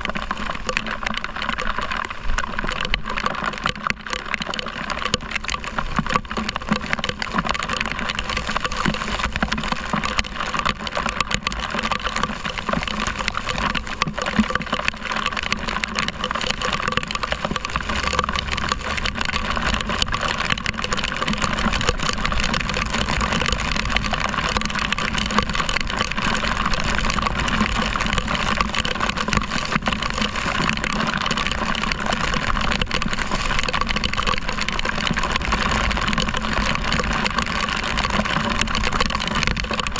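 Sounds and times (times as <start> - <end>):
raindrops ticking on camera: 0.0 - 39.9.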